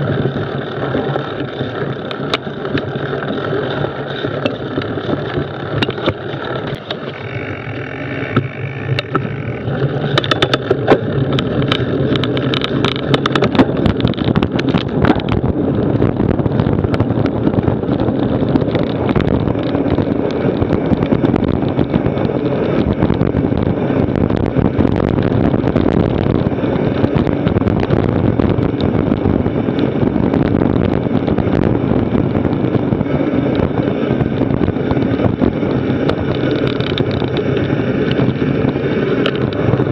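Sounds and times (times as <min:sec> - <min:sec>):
bike tyres rumbling on dirt: 0:00.0 - 0:39.9
wind rushing over microphone: 0:00.0 - 0:39.9
rattling clicks and knocks: 0:00.2 - 0:30.5, 0:34.3 - 0:38.4, 0:39.2 - 0:39.9.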